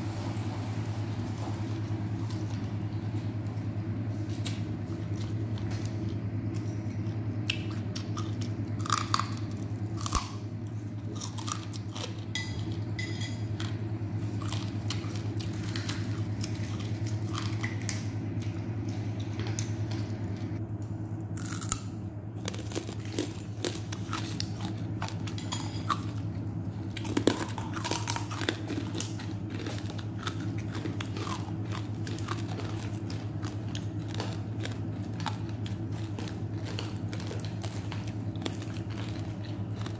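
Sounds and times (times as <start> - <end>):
low hum: 0.0 - 39.9
person chewing crunchy food: 3.6 - 39.9.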